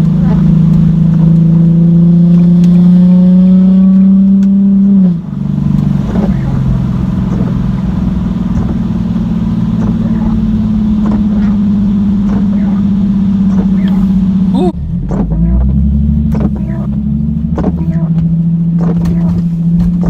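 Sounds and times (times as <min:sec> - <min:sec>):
loud car exhaust accelerating: 0:00.0 - 0:20.0.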